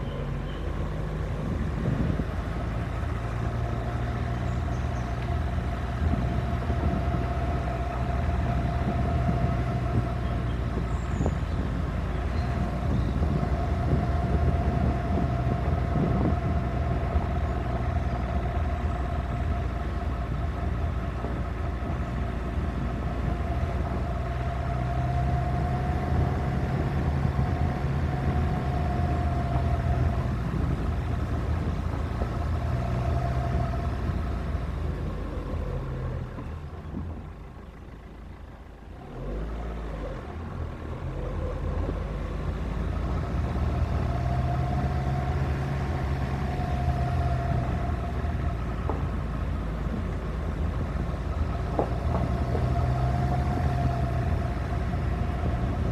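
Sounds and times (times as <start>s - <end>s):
car engine running: 0.0s - 55.9s
road noise on gravel: 0.0s - 55.9s.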